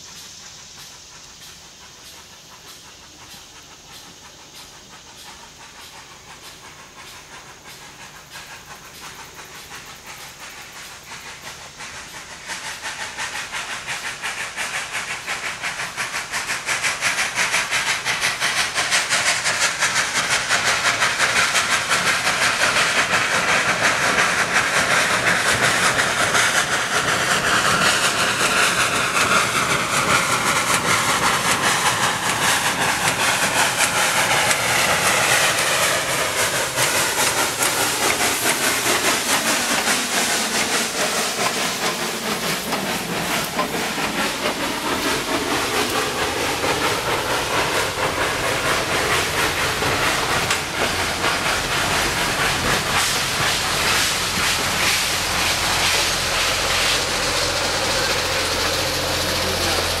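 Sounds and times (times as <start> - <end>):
steam locomotive exhaust: 0.0 - 60.0
train wheels clicking over rail joints: 0.0 - 60.0.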